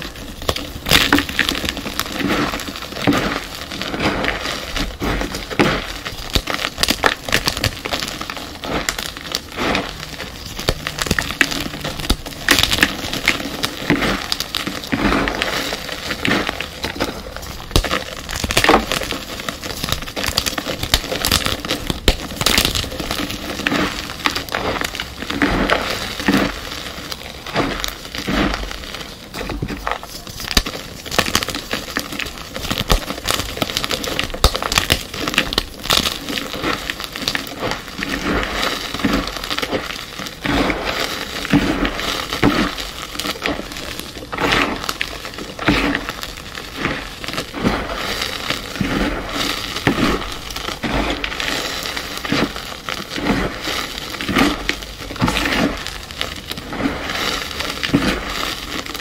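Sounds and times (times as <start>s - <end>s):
chalk blocks crunching: 0.0s - 59.0s.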